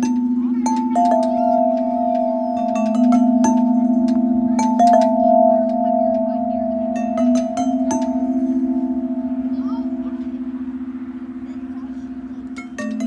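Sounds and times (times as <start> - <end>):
metal tubular chimes ringing: 0.0 - 13.0.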